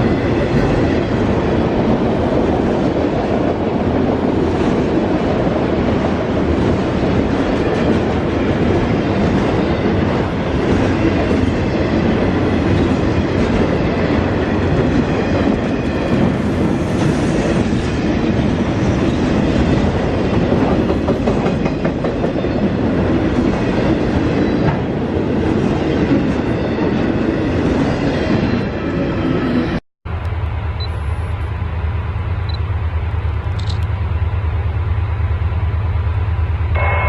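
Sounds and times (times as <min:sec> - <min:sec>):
train cars rolling past: 0:00.0 - 0:37.0.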